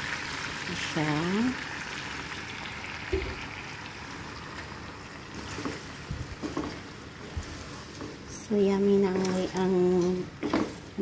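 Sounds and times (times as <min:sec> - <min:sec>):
sauce sizzling and bubbling: 0:00.0 - 0:11.0.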